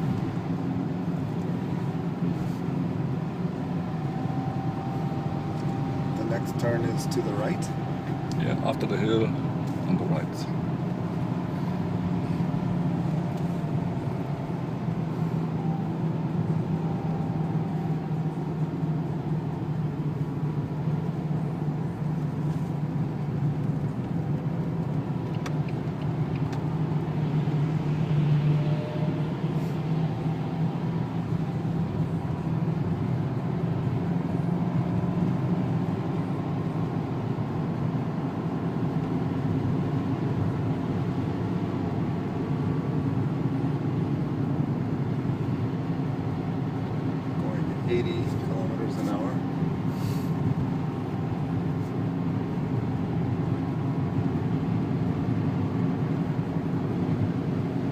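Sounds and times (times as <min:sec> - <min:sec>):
car engine drone: 0:00.0 - 0:57.9
tyre and road noise: 0:00.0 - 0:57.9.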